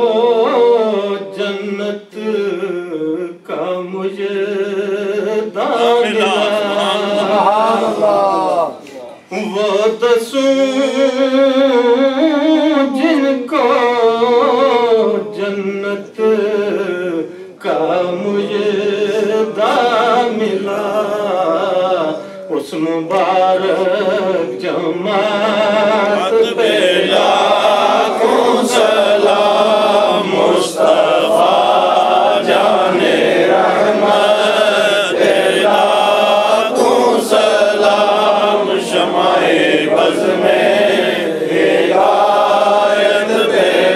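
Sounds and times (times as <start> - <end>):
men chanting in unison: 0.0 - 43.9.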